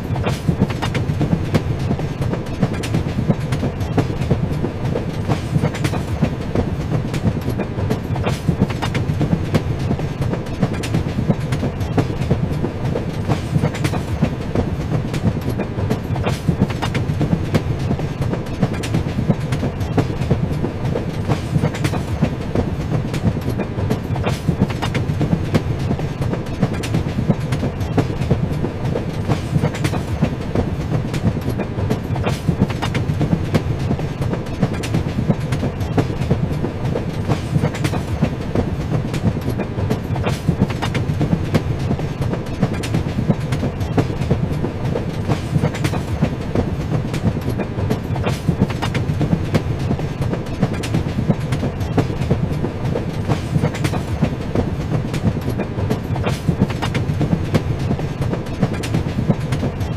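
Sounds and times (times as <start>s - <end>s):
train rumbling along track: 0.0s - 59.9s
wheels clicking over rails: 0.0s - 59.9s.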